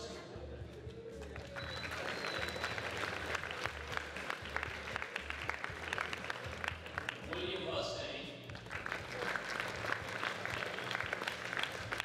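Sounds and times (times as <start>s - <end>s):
audience applauding: 1.2s - 7.7s, 8.5s - 12.0s.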